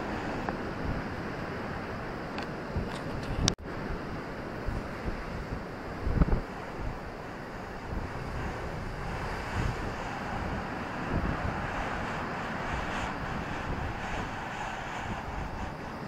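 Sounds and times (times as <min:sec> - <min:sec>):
sea surf breaking: 0:00.0 - 0:02.7, 0:03.6 - 0:16.0
wind buffeting microphone: 0:00.0 - 0:16.0.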